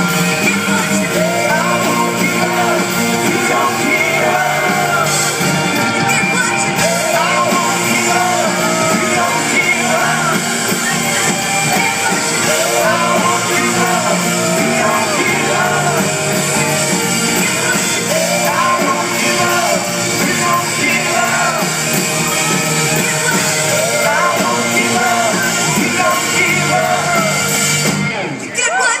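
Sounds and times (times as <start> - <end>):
live rock band playing: 0.0 - 28.8
lead vocal singing: 0.0 - 29.0.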